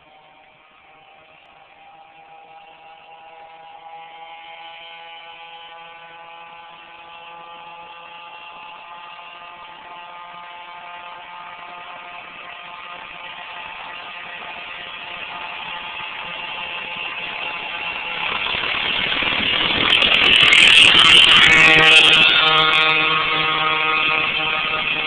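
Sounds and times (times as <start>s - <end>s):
small bike engine buzzing: 0.0s - 25.0s.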